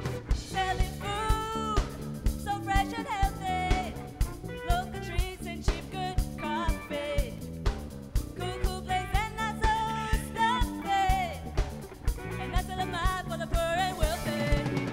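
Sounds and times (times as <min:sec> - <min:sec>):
person singing pop melody: 0:00.0 - 0:07.5, 0:08.2 - 0:14.9
steady drum beat: 0:00.0 - 0:14.9.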